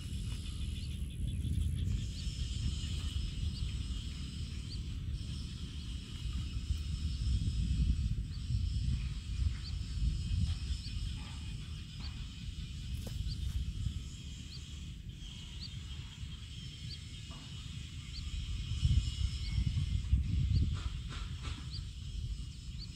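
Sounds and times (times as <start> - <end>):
high-pitched insect chorus: 0.0 - 22.9
wind on microphone: 0.0 - 22.9.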